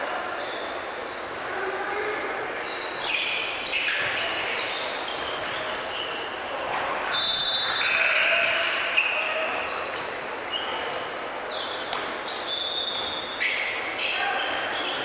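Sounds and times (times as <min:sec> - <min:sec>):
sneakers squeaking: 0:00.4 - 0:01.4, 0:02.6 - 0:15.0.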